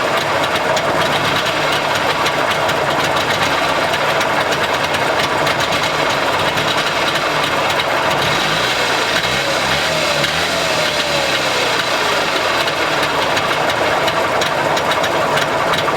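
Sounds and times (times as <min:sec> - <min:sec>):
two-stroke engine idling: 0:00.0 - 0:15.9.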